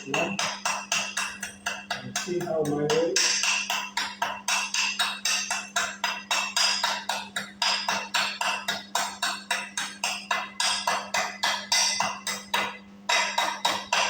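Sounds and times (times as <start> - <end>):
chipping hammer tapping metal: 0.0 - 14.0.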